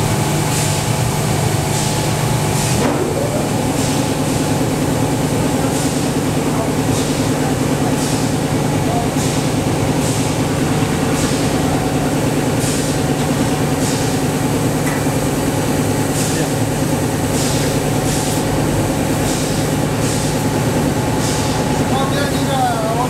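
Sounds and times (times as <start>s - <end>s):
factory machinery humming: 0.0s - 23.0s.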